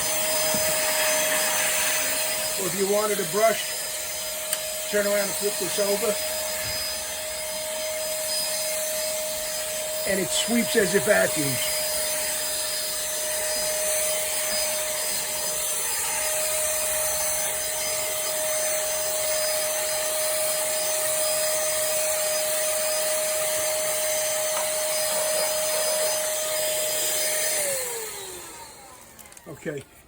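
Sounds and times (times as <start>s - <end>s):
handheld vacuum cleaner motor: 0.0s - 30.0s.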